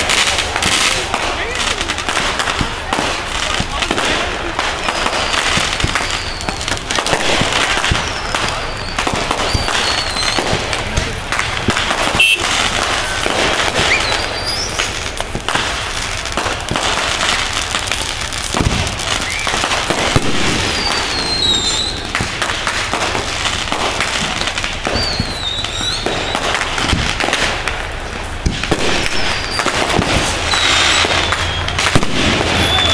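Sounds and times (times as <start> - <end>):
firework bangs: 0.0 - 32.9
firework crackling: 0.0 - 32.9
falling firework whistles: 1.8 - 11.0, 11.7 - 27.7, 28.4 - 32.9.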